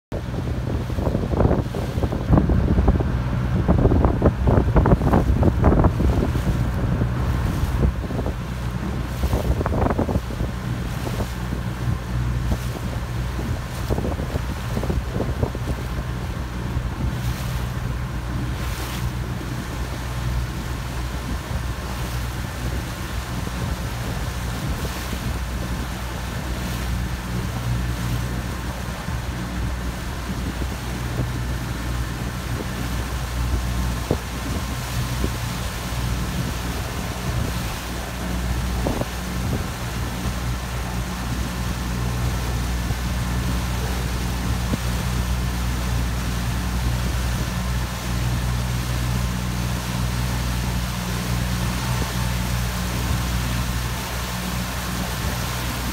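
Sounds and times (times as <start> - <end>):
motorboat engine droning: 0.0 - 55.9
water washing along hull: 0.0 - 55.9
wind on microphone: 0.1 - 55.9.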